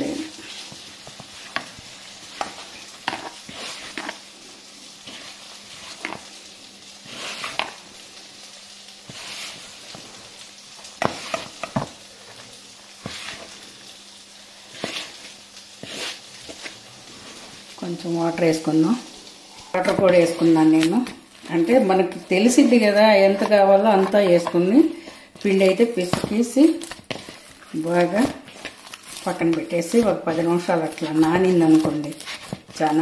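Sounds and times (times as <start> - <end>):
hands mixing dough rustle: 0.0 - 33.0.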